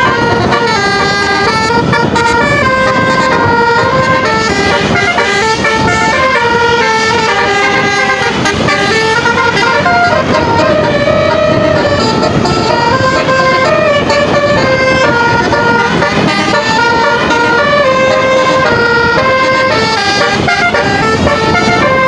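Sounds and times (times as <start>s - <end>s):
bus rumble: 0.0s - 22.0s
musical air horn tune: 0.0s - 22.0s.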